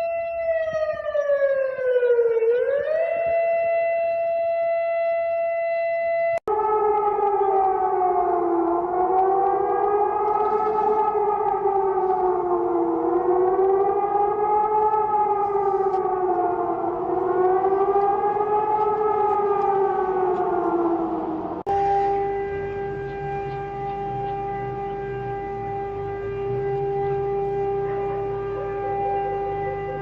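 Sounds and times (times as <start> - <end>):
siren wavering wail: 0.0 - 30.0.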